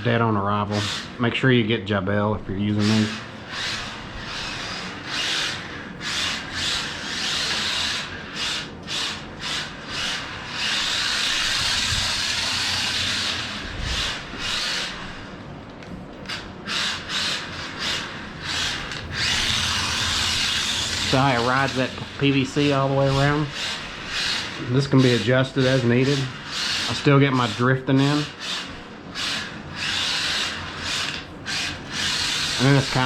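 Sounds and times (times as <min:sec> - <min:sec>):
toy car tyres scrubbing on floor: 0:00.0 - 0:01.5, 0:02.6 - 0:15.4, 0:16.2 - 0:33.0.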